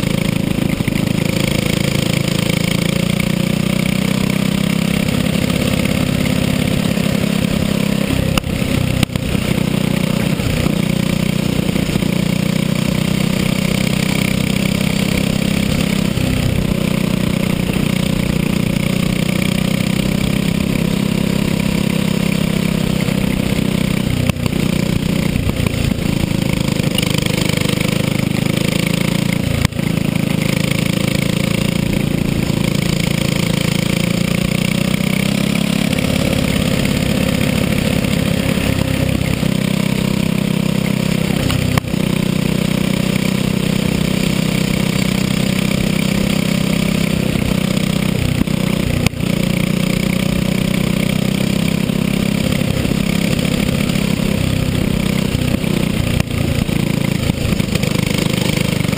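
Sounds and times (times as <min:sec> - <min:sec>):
kart engine droning: 0:00.0 - 0:58.9.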